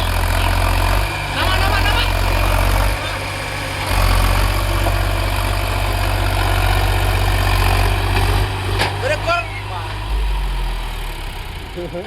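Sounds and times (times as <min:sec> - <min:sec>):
diesel tractor engine droning: 0:00.0 - 0:12.0.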